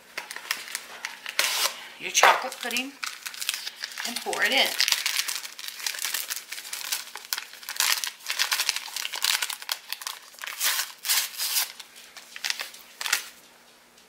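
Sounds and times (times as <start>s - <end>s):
plastic packet crinkling: 0.0s - 13.4s.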